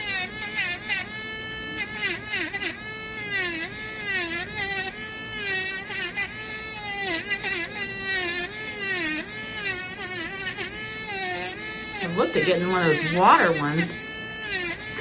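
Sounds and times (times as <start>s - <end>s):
rotary tool grinding nail: 0.0s - 15.0s.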